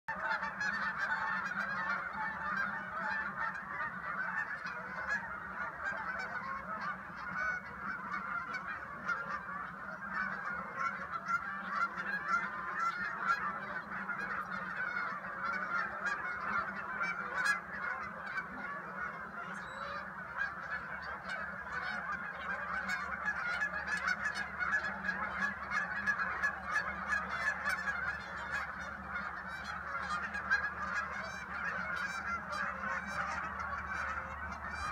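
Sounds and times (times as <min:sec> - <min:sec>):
flock of geese honking: 0:00.1 - 0:34.9.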